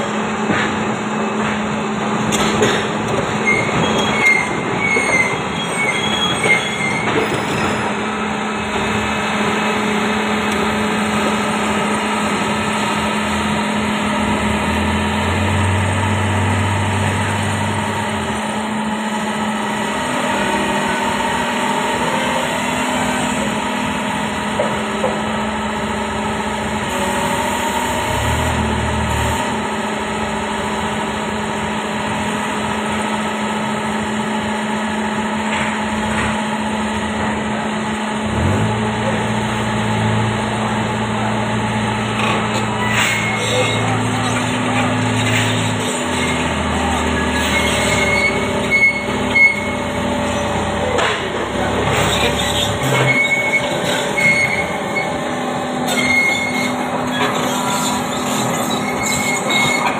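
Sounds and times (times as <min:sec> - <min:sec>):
excavator diesel engine idling: 0:00.0 - 0:59.9.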